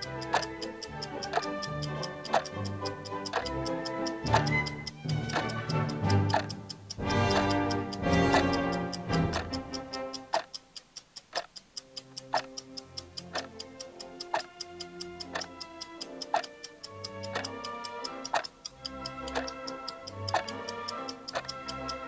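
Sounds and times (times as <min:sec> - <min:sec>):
instrumental music with held notes: 0:00.0 - 0:10.3, 0:12.5 - 0:22.0
clock ticking: 0:00.0 - 0:22.0.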